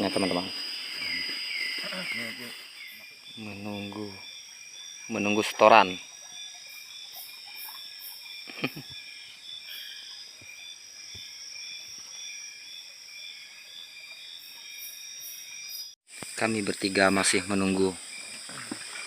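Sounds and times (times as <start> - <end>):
frogs calling: 0.0 - 19.0
insects trilling: 0.0 - 19.0.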